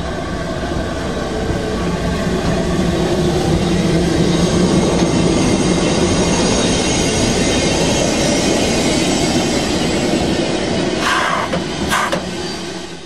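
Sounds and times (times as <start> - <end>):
steam locomotive rumbling and hissing: 0.0 - 13.0.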